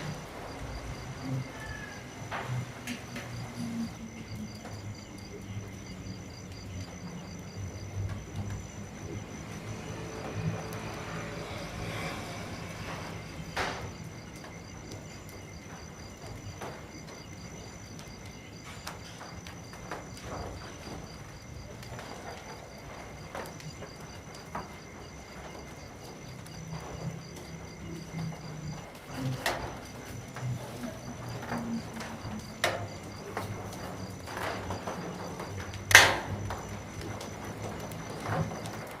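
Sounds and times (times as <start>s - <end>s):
insect trill: 0.0s - 39.0s
rain dripping: 0.0s - 39.0s.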